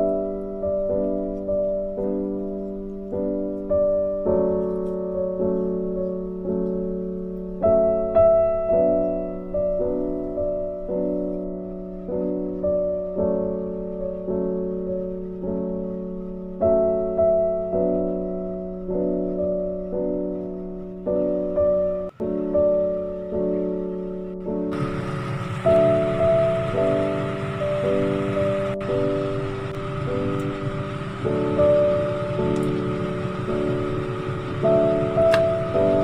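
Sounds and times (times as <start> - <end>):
held low piano note: 0.0 - 36.0
slow piano melody: 0.0 - 36.0.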